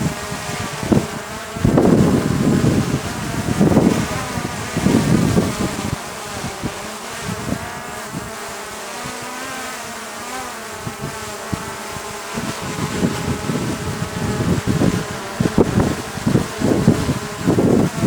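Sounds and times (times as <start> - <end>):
wind buffeting microphone: 0.0 - 9.5, 10.5 - 18.0
quadcopter buzzing: 0.0 - 18.0.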